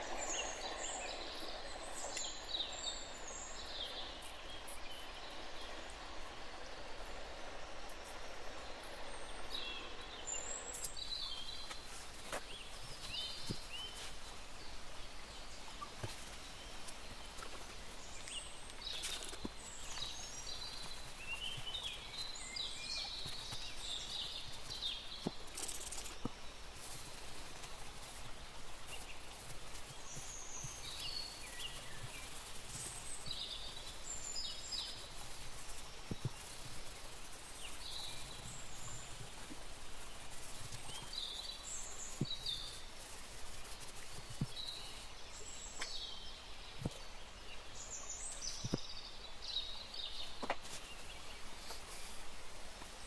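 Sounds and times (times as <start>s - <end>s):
small birds chirping: 0.0s - 53.0s
steady hiss: 0.0s - 53.0s.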